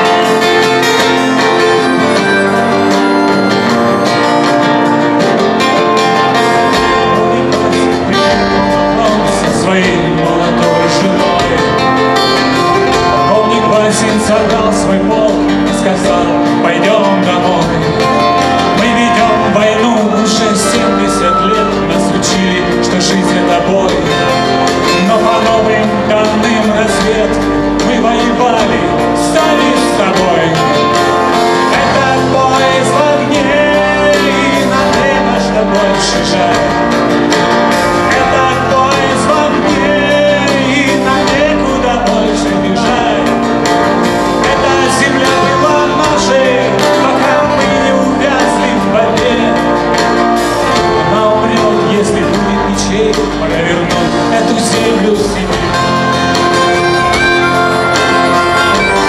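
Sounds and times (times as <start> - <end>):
acoustic guitars: 0.0 - 59.0
drum kit: 0.0 - 59.0
man singing: 0.0 - 59.0.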